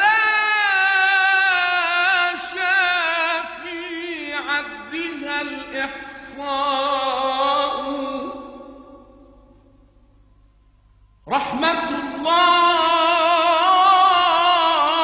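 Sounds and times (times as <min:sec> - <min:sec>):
man chanting a hymn: 0:00.0 - 0:08.6, 0:11.3 - 0:15.0.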